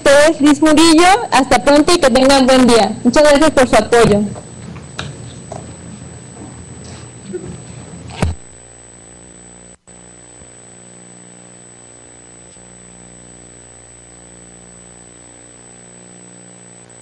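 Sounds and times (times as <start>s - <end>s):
electrical buzzing hum: 0.0s - 17.0s.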